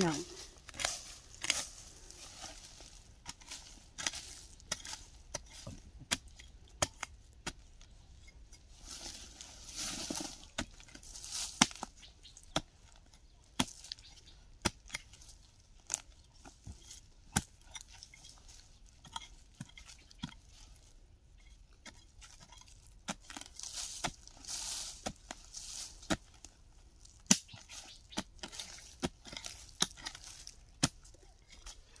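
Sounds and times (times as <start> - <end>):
digging tool striking soil: 0.0 - 20.8, 21.4 - 32.0
scraping and loosened earth: 0.0 - 32.0.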